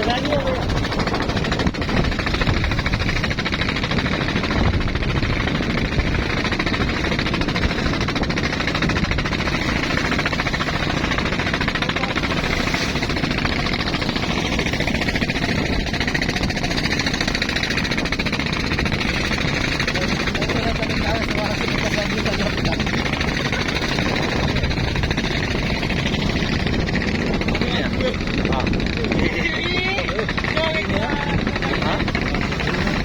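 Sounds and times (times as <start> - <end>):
motor boat engines running: 0.0 - 33.0.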